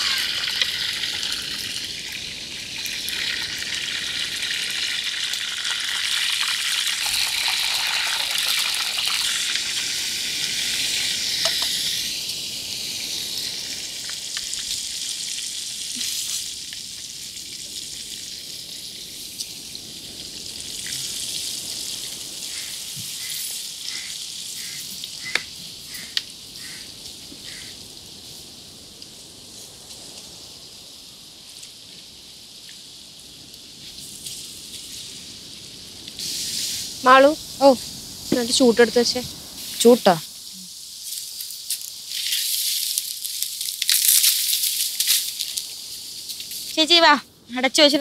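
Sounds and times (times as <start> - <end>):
chicken sizzling in a pot: 0.0 - 46.8.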